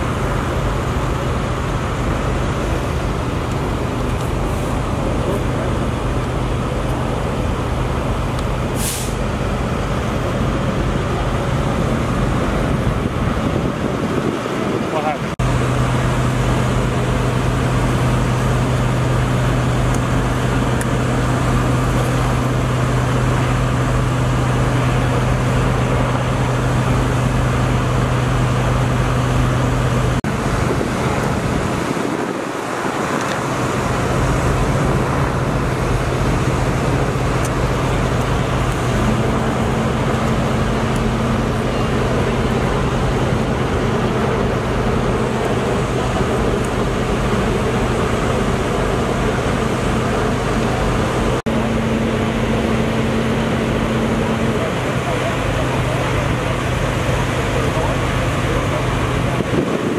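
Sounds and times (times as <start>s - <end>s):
truck engines idling: 0.0s - 59.9s.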